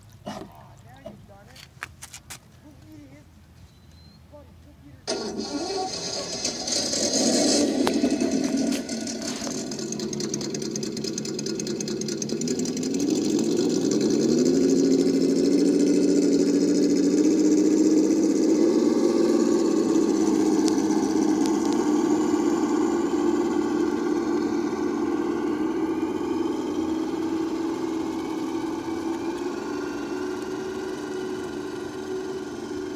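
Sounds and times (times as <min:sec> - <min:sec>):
simulated engine sound from speaker: 0:04.2 - 0:32.9.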